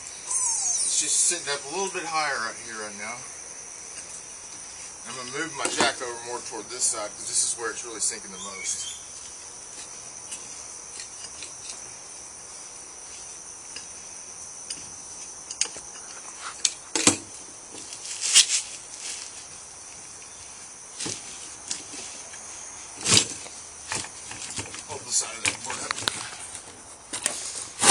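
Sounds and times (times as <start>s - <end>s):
crickets chirring: 0.0s - 27.9s.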